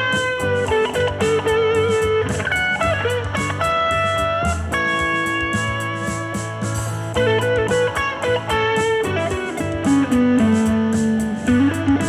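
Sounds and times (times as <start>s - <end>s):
electric guitar blues-rock lead: 0.0s - 12.0s
rhythm guitar backing: 0.0s - 12.0s.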